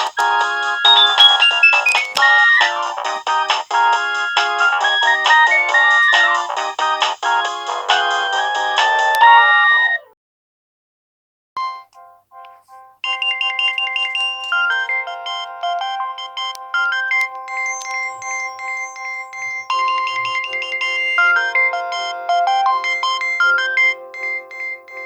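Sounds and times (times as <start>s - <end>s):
polyphonic phone ringtone: 0.0s - 10.1s, 11.6s - 25.0s.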